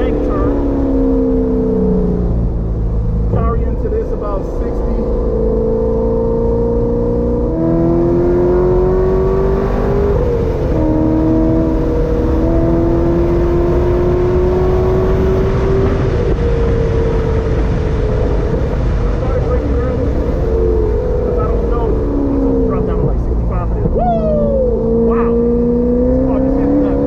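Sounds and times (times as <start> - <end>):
car engine at full throttle: 0.0 - 27.0.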